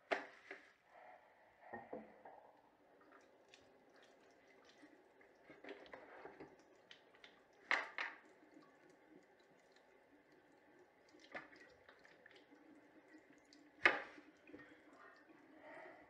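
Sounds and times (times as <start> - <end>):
toiletries clicking and tapping: 1.7 - 15.6.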